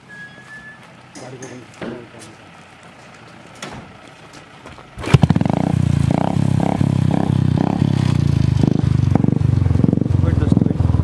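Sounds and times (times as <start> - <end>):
motorcycle engine running: 0.8 - 11.0.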